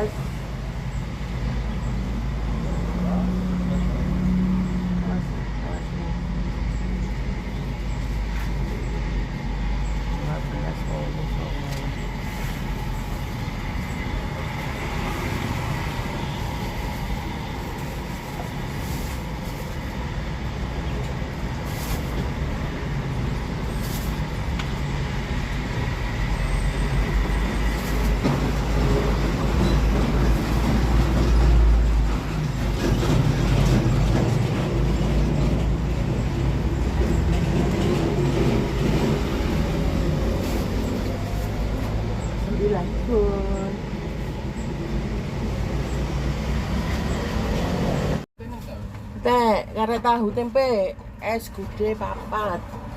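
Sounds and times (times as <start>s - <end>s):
heavy vehicle passing: 0.0s - 48.3s
road traffic rumble: 0.0s - 52.9s.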